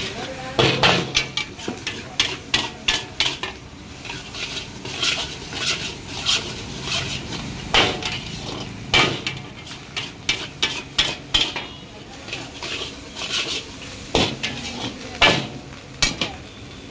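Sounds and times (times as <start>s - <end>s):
metal spatula scraping a wok: 0.0s - 16.6s
spatula clanging against wok: 0.6s - 16.4s.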